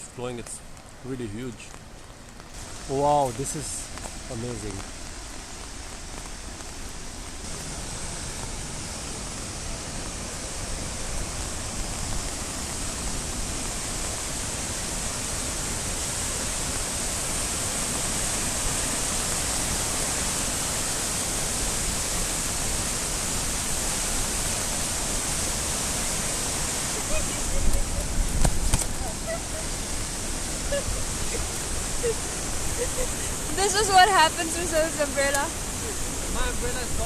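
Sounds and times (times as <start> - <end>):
waterfall rushing: 2.6 - 37.0.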